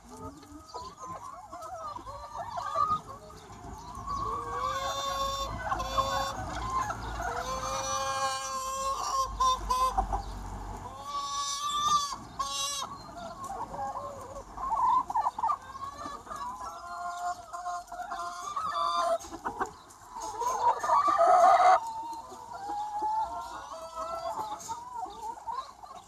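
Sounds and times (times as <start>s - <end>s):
chicken drawn-out call: 0.0s - 26.0s
chickens clucking: 0.0s - 26.0s.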